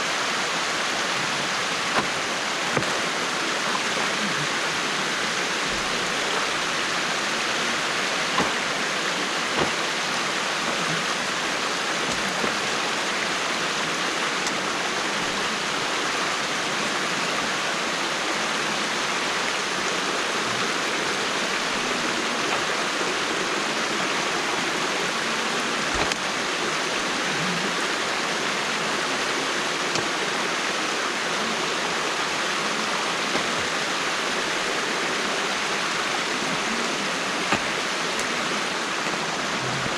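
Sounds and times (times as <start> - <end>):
water rushing through dam: 0.0 - 39.9.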